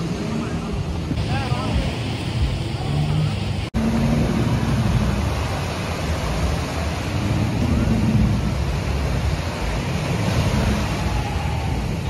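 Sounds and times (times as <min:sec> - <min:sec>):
jet ski engine humming: 0:00.0 - 0:12.0
small waves breaking: 0:00.0 - 0:12.0
wind on microphone: 0:00.0 - 0:12.0.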